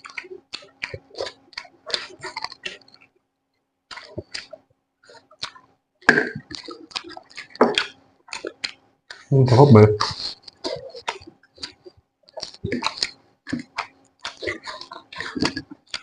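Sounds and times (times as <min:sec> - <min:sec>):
chewing and mouth smacking: 0:00.0 - 0:03.2, 0:03.9 - 0:16.0.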